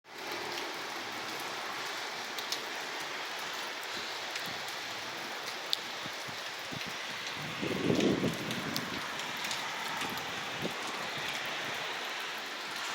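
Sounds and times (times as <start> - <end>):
steady rain falling: 0.1 - 12.9.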